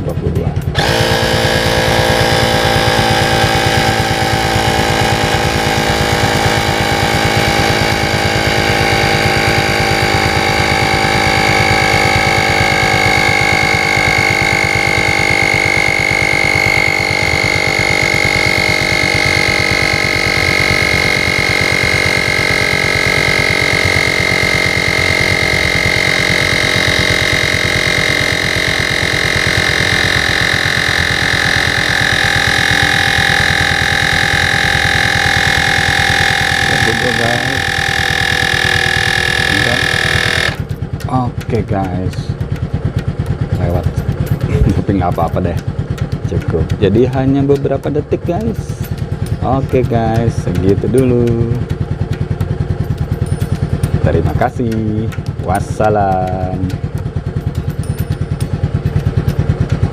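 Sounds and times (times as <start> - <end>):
air compressor buzzing: 0.0 - 59.9.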